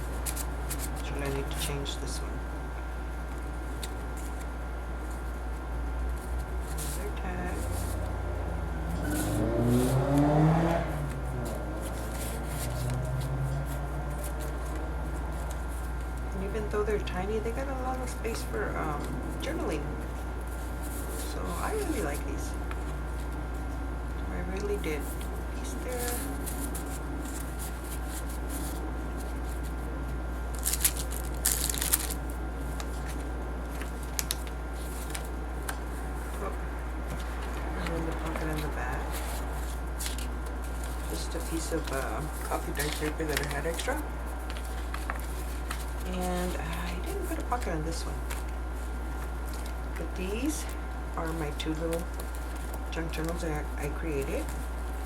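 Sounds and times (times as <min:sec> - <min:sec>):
paper pages rustling: 0:00.0 - 0:02.0, 0:03.2 - 0:10.4, 0:11.0 - 0:23.8, 0:24.4 - 0:55.0
steady low hum: 0:00.0 - 0:55.0.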